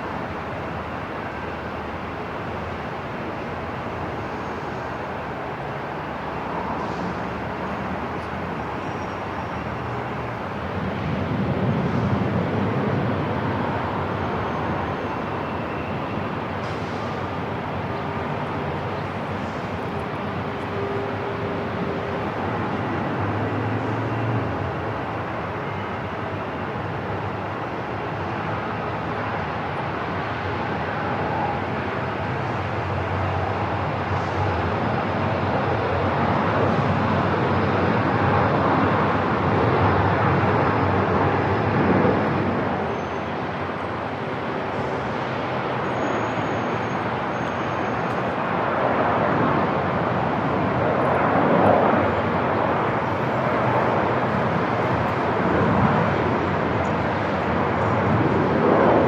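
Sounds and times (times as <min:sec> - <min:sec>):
airport ambience rush: 0:00.0 - 0:59.0.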